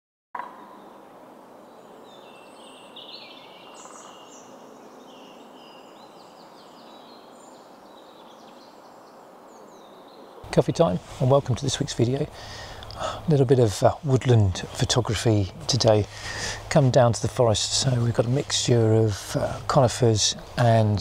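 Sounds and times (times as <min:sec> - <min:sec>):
songbirds singing: 0:00.4 - 0:21.0
woodland hiss: 0:01.1 - 0:21.0.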